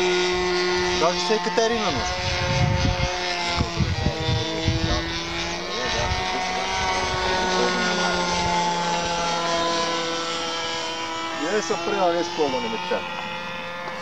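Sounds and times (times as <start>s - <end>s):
low rumbling: 0.0s - 14.0s
model airplane engine droning: 0.0s - 14.0s.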